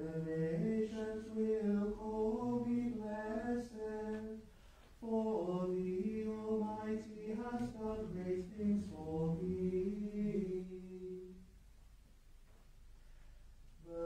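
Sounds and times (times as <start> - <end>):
unaccompanied plainchant singing: 0.0 - 11.5.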